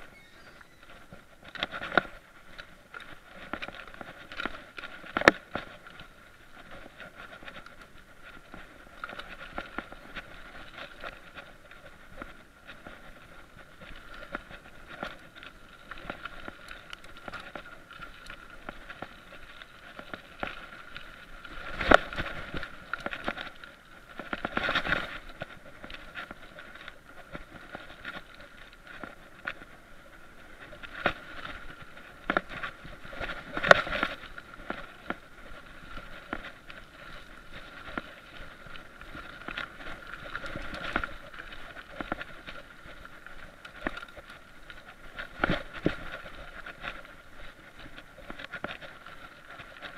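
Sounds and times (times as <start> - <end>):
bike rattles and clicks: 0.0 - 49.9
bike tyre and trail noise: 0.0 - 49.9.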